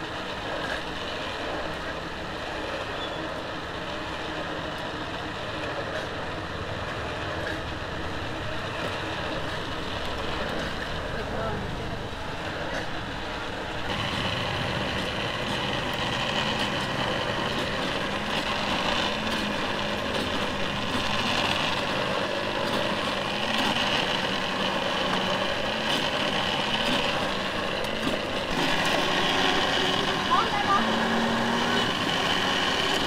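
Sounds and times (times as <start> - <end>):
engine-like drone: 0.0 - 33.0.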